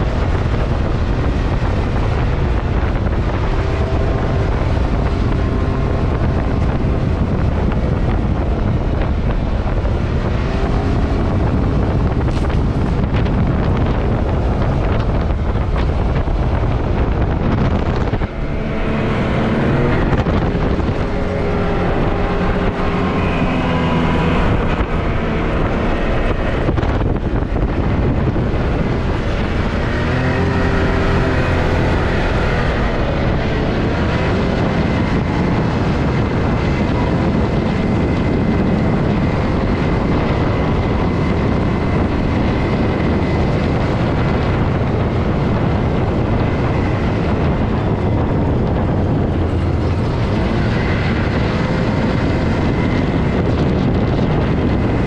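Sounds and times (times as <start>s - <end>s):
engine revving under load: 0.0s - 55.0s
wind buffeting microphone: 0.0s - 55.0s.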